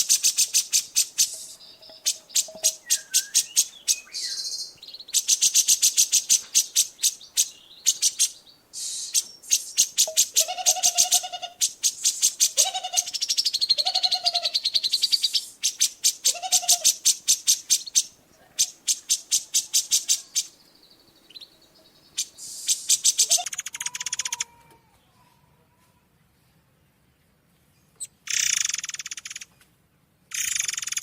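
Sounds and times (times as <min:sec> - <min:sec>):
songbird singing: 0:00.0 - 0:25.4, 0:26.2 - 0:29.7.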